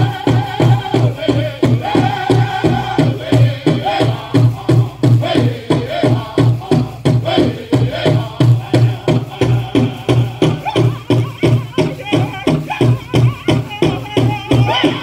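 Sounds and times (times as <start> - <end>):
large drum beating: 0.0 - 15.0
voices chanting together: 0.0 - 15.0.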